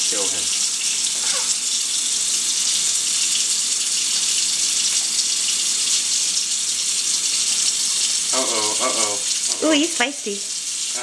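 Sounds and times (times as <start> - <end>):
faucet water splashing into sink: 0.0 - 11.0.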